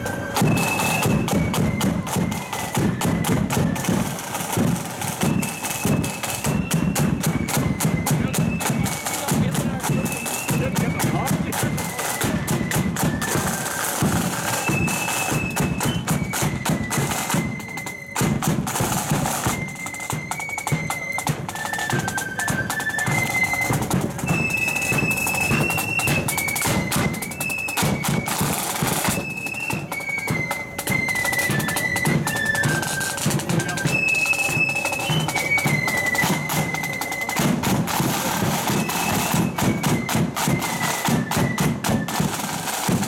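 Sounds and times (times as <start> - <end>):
flutes playing high melody: 0.0 - 43.0
snare and bass drums: 0.0 - 43.0.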